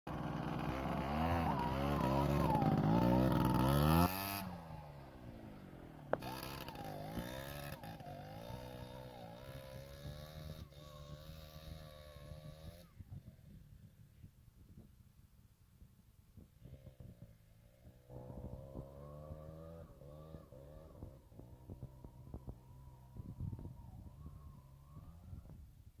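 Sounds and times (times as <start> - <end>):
motorcycle engine revving: 0.1 - 13.9, 16.5 - 25.8.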